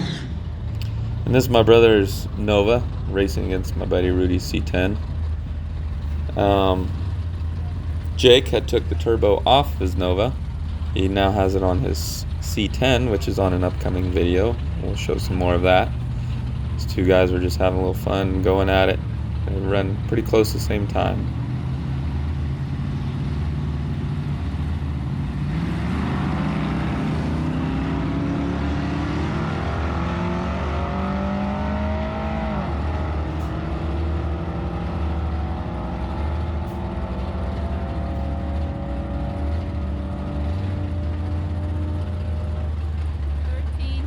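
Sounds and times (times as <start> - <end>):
drag racing engines accelerating: 0.0 - 44.0
engines idling: 0.0 - 44.0.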